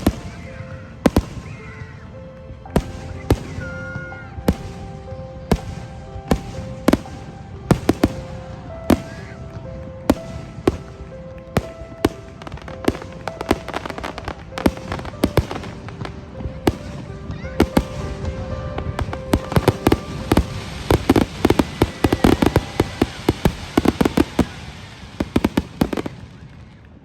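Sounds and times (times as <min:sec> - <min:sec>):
fireworks bangs: 0:00.0 - 0:27.0
music with held melody notes: 0:00.0 - 0:27.0.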